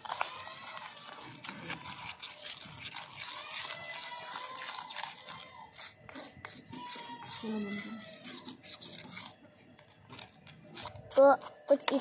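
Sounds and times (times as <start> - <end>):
wet paste squelching: 0.0 - 12.0.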